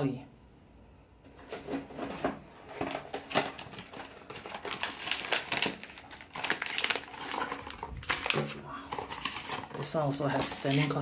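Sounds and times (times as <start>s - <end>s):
cardboard packaging crinkling: 1.5s - 11.0s.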